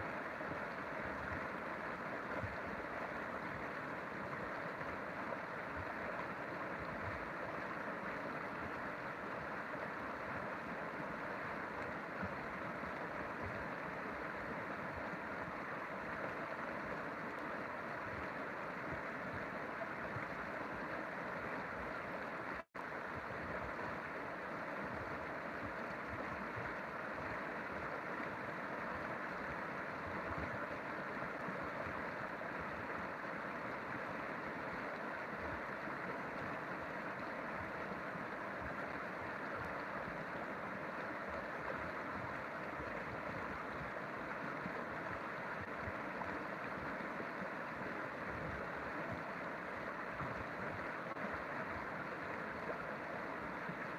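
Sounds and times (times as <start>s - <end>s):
river water flowing: 0.0s - 53.9s.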